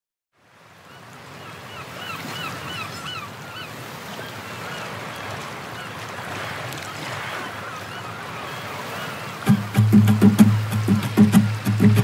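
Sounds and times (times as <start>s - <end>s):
surf washing: 0.4s - 12.0s
seabirds crying: 0.8s - 11.9s.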